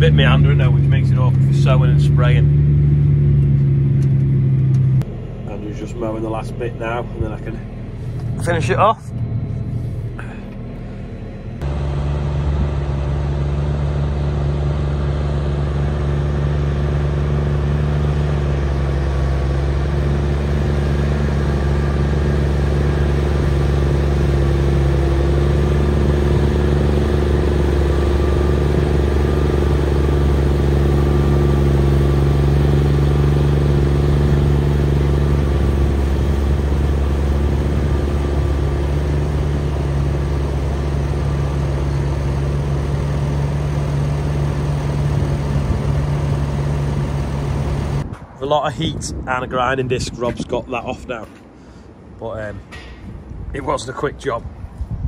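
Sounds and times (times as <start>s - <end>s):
tractor engine drone: 0.0s - 55.0s.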